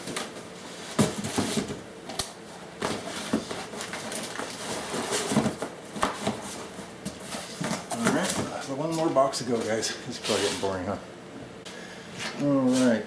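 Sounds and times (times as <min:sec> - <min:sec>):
cardboard and packing rustling: 0:00.0 - 0:10.8.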